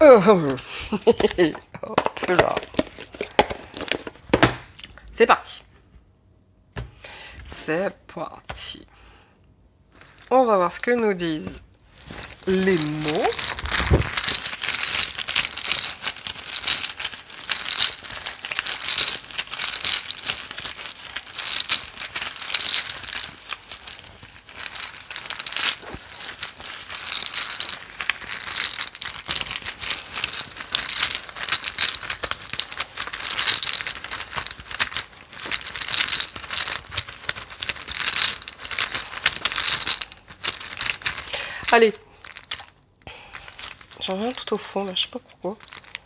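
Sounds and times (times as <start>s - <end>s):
word pieces rustling in cloth bag: 0.0s - 4.4s, 11.3s - 46.0s.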